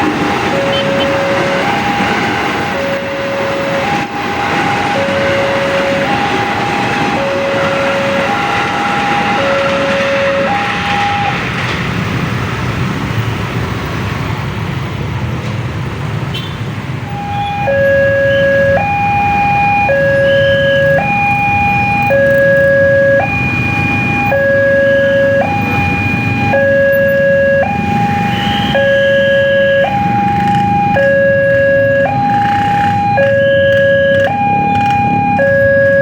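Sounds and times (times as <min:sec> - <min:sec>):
level crossing alarm: 0:00.0 - 0:11.5, 0:17.1 - 0:36.0
road traffic noise: 0:00.0 - 0:36.0.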